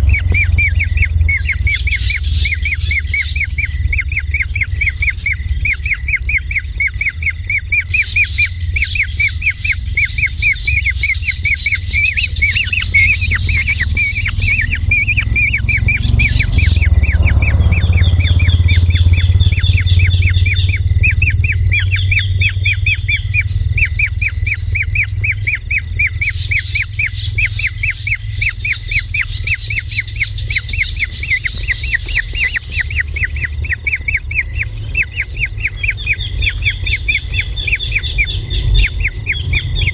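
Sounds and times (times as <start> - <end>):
high insect drone: 0.0 - 39.9
kingfisher calling: 0.0 - 39.9
low rumble: 0.0 - 39.9.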